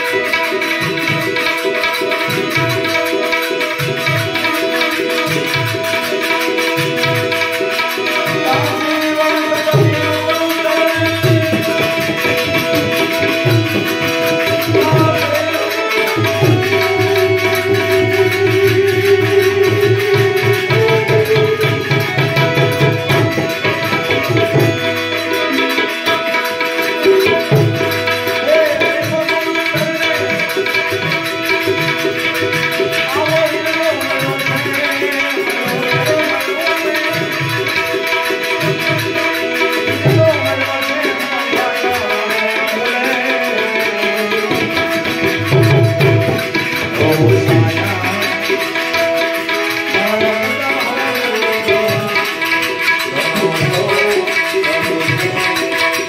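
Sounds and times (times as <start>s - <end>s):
harmonium chords: 0.0s - 56.0s
tabla rhythm: 0.0s - 56.0s.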